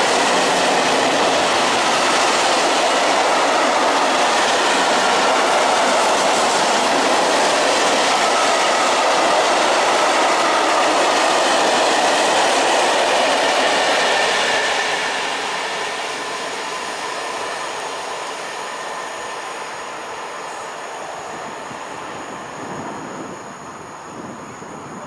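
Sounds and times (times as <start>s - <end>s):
freight train wagons rolling past: 0.0s - 24.8s.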